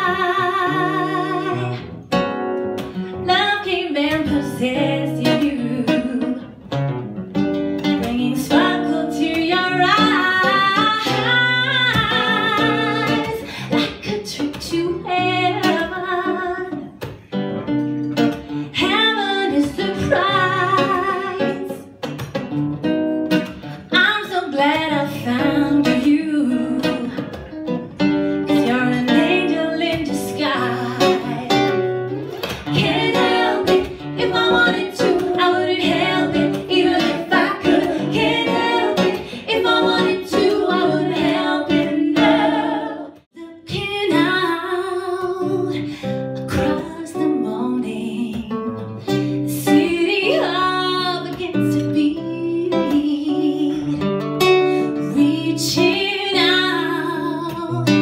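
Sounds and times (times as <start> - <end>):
woman singing a ballad: 0.0 - 1.9, 3.2 - 6.6, 7.9 - 17.0, 18.7 - 22.0, 23.9 - 27.5, 28.4 - 31.8, 32.7 - 54.1, 54.8 - 58.0
plucked acoustic guitar: 0.0 - 58.0.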